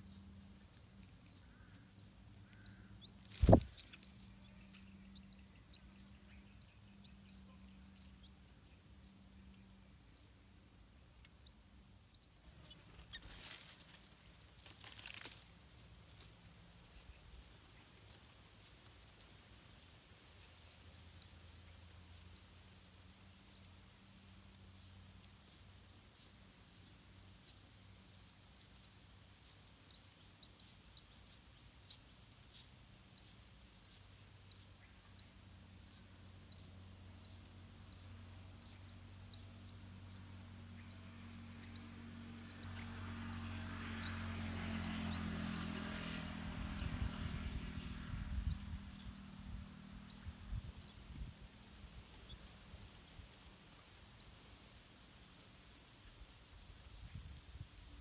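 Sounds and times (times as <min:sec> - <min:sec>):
nestlings begging peeps: 0:00.0 - 0:56.3.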